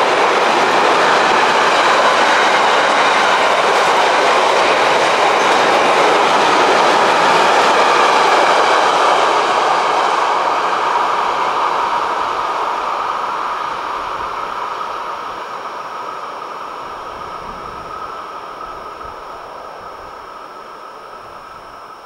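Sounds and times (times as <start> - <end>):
freight train rolling: 0.0 - 22.0.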